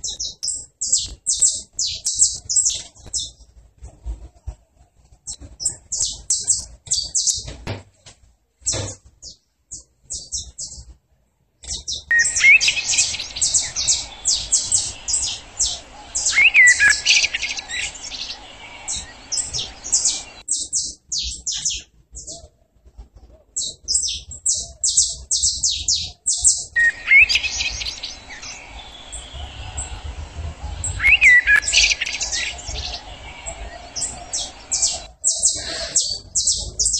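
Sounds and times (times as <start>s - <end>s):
songbirds chirping and singing: 0.0s - 7.9s, 8.6s - 11.0s, 11.6s - 36.9s
faint steady background noise: 0.0s - 36.9s.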